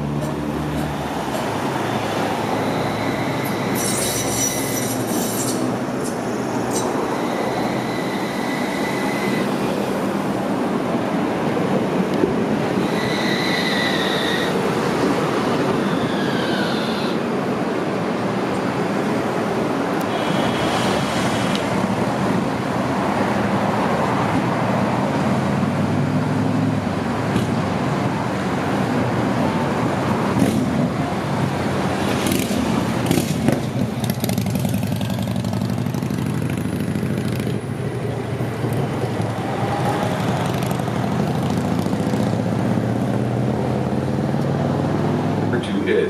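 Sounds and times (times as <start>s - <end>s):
cars passing: 0.0s - 46.0s
tram running hum: 0.0s - 46.0s.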